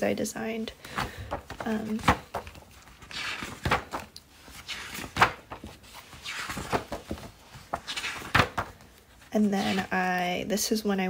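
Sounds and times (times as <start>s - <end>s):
pages turning with papery swish: 0.9s - 10.1s.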